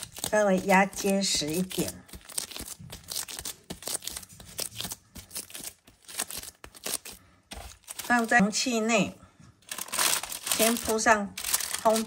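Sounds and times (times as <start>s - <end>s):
parchment paper crinkling: 0.0s - 8.9s, 9.6s - 12.0s.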